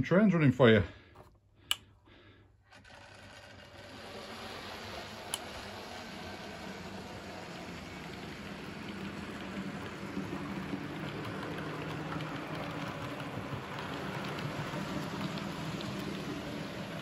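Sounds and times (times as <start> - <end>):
model train motors whirring: 2.5 - 17.0
wheels clicking over rail joints: 2.7 - 17.0.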